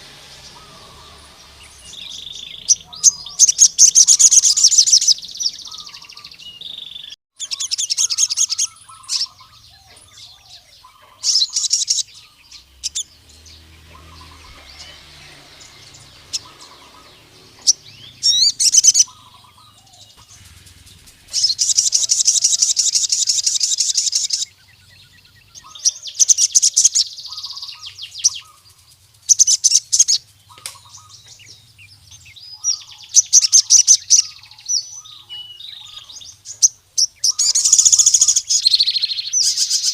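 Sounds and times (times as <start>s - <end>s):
bird singing fast high trills: 0.0s - 39.9s.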